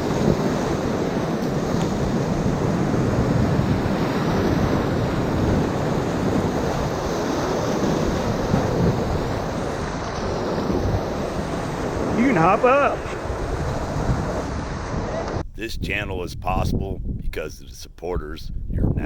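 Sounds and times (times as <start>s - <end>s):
whitewater rushing: 0.0s - 15.4s
wind buffeting microphone: 0.0s - 19.0s.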